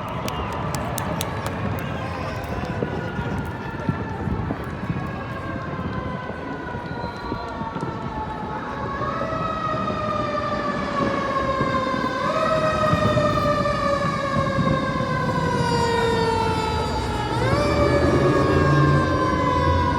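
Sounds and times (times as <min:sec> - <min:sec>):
emergency vehicle siren wailing: 0:00.0 - 0:19.9.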